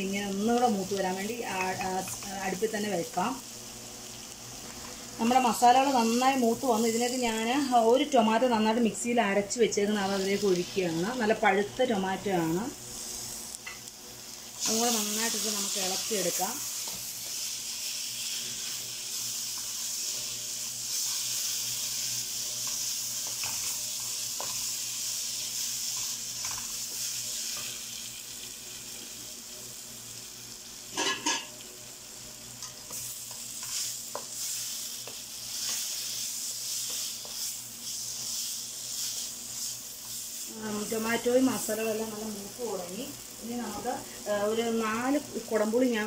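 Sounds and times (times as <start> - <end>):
masala sizzling in a pan: 0.0 - 46.0.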